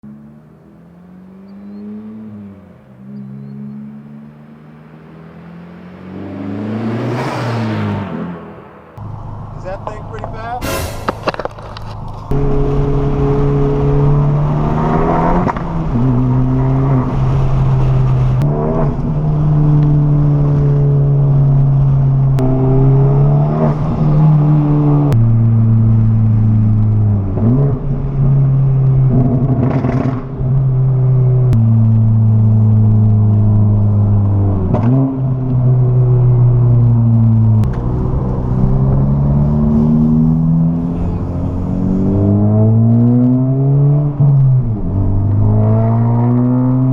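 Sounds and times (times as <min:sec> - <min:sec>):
turbocharged car engine revving: 0:00.0 - 0:11.5, 0:12.3 - 0:46.9.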